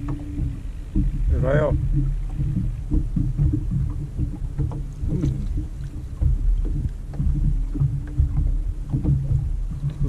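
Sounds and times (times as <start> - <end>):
faint steady hum: 0.0 - 10.0
water slapping boat hull: 0.0 - 10.0.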